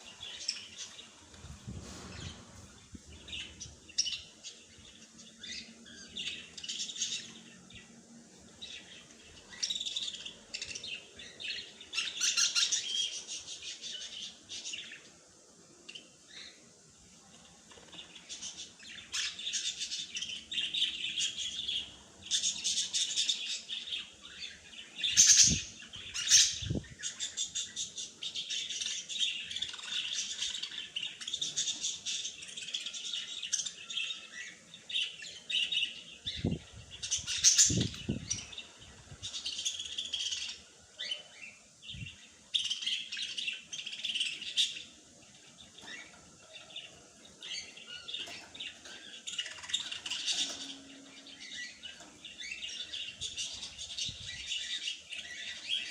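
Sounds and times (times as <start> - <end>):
songbirds chirping and twittering: 0.0 - 55.9.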